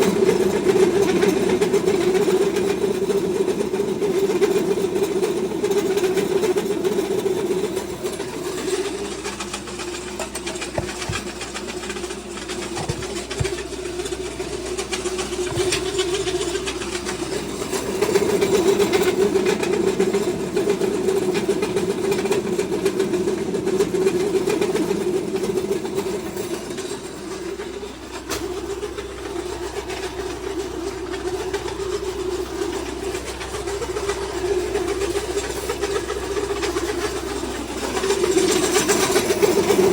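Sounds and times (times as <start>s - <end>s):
feed mill mechanical drone: 0.0s - 39.9s.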